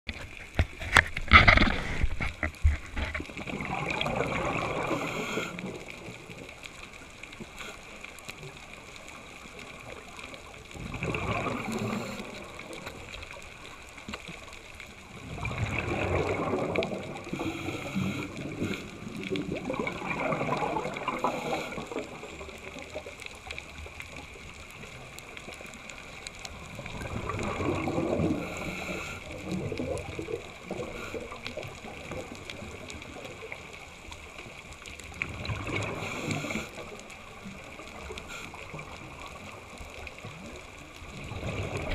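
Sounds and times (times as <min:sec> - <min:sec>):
underwater exhaled air bubbling: 0:01.4 - 0:41.9.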